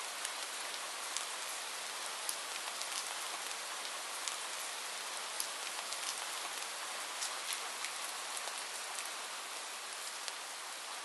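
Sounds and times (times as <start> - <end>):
raindrops ticking on a surface: 0.0 - 11.0
steady rain hiss: 0.0 - 11.0.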